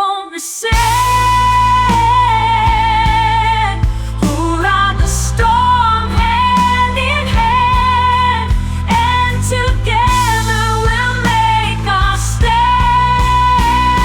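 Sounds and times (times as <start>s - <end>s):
blues-rock song: 0.8s - 14.0s.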